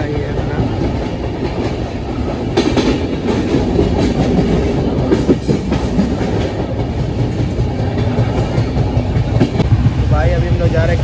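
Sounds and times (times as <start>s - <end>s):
rail joint clicks: 0.0s - 11.0s
train wheels rumbling on rails: 0.0s - 11.0s.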